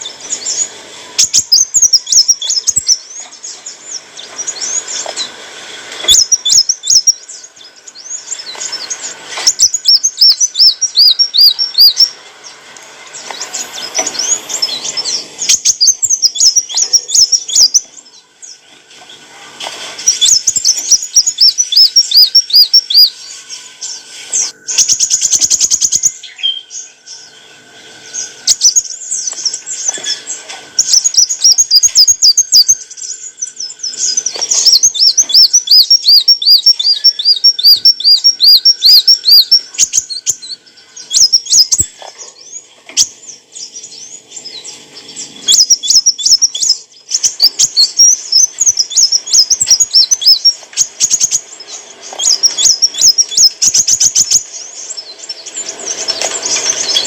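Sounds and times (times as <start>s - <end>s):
sunbird chirping and trilling: 0.0s - 57.0s.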